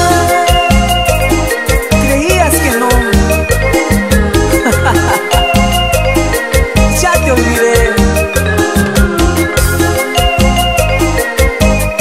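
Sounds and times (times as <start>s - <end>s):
latin dance band music: 0.0s - 12.0s.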